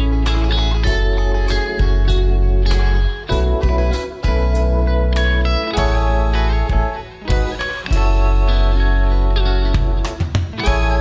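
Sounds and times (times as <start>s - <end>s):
plucked guitar notes: 0.0s - 11.0s
steady bass: 0.0s - 11.0s.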